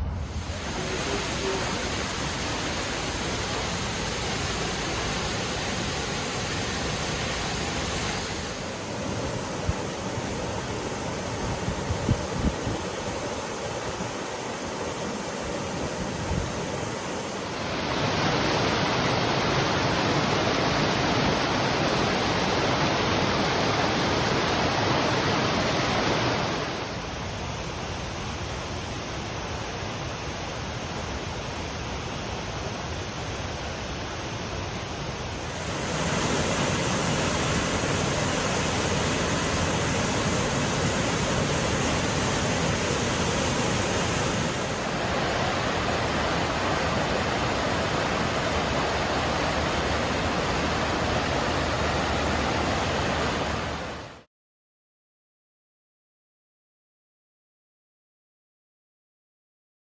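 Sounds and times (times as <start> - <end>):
waterfall roaring: 0.0 - 54.2.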